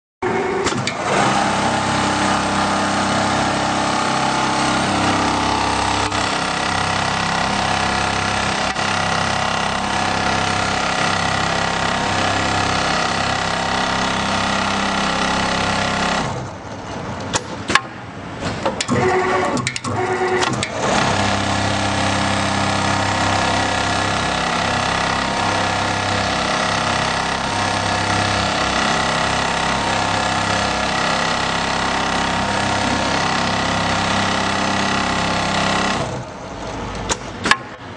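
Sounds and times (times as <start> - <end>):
sewing machine stitching: 0.2 - 17.1, 18.7 - 37.7.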